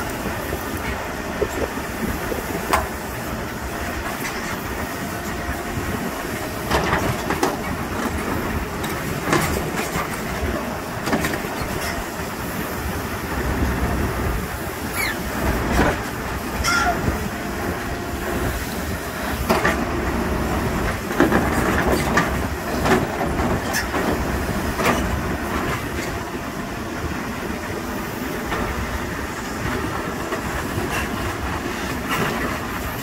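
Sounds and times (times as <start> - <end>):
diesel engine rumble: 0.0 - 33.0.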